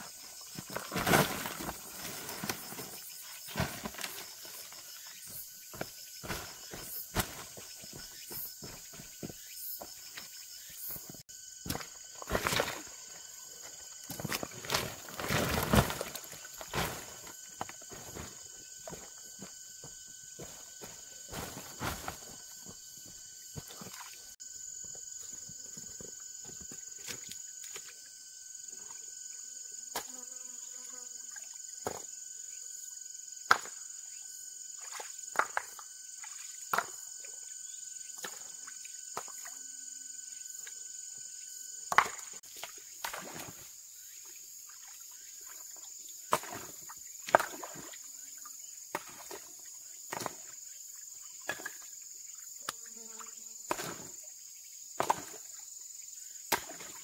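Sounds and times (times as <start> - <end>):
forest insects droning: 0.0 - 57.0
thin insect tone: 0.0 - 57.0.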